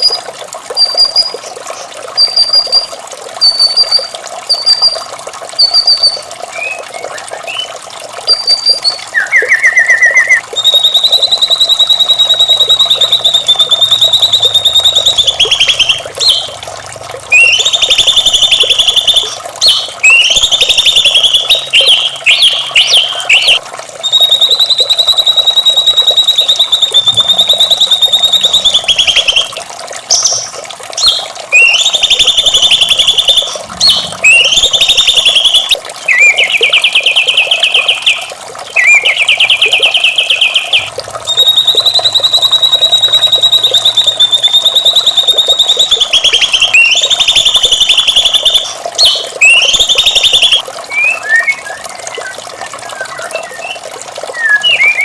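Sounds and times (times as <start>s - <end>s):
bird singing rapid high trills: 2.2s - 7.7s, 8.3s - 16.6s, 17.3s - 29.5s, 30.1s - 55.0s.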